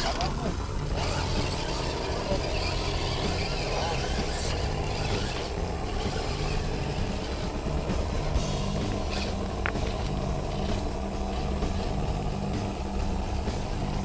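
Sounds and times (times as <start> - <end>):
rc car motor whining: 0.0 - 14.0.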